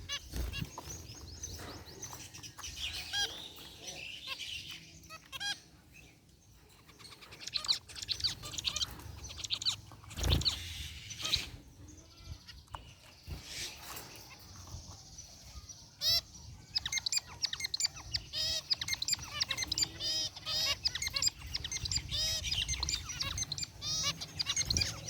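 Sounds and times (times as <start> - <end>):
finches chirping: 0.0 - 25.0.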